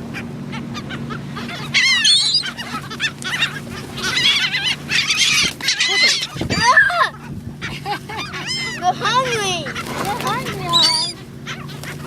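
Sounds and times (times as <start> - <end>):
gulls squawking: 0.0 - 12.0.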